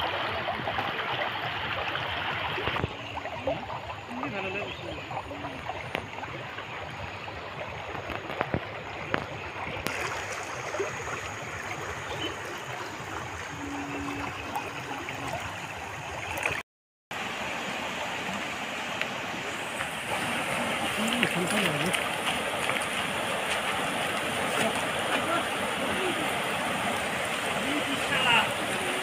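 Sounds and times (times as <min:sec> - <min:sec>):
floodwater flowing and gurgling: 0:00.0 - 0:29.0.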